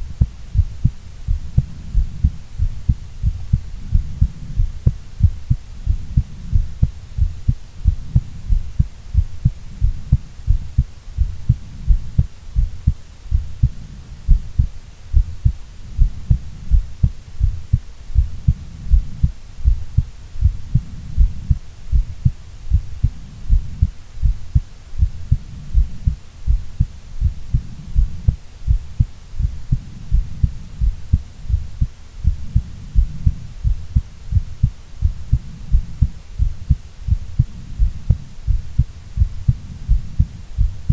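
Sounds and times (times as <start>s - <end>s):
heartbeat thumps: 0.0s - 40.9s.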